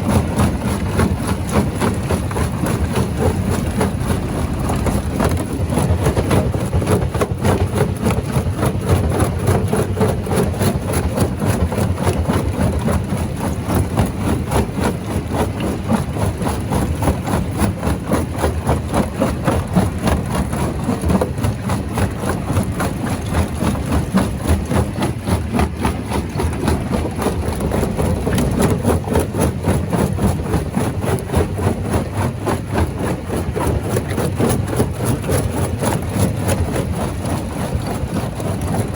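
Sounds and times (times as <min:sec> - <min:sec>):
rock crusher machine running: 0:00.0 - 0:38.9.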